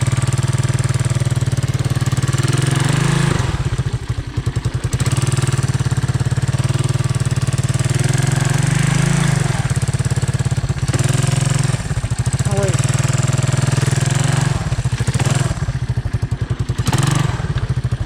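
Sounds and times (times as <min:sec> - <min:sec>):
single-cylinder engine chugging: 0:00.0 - 0:18.0.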